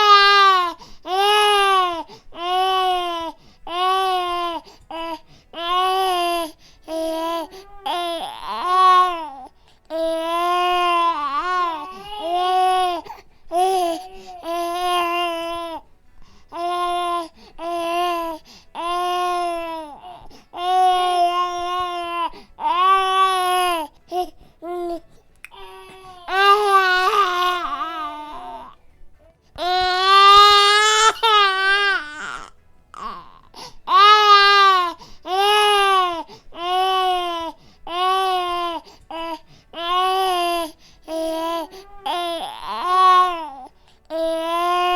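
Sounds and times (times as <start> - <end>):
infant crying: 0.0 - 15.8, 16.5 - 28.8, 29.6 - 44.9.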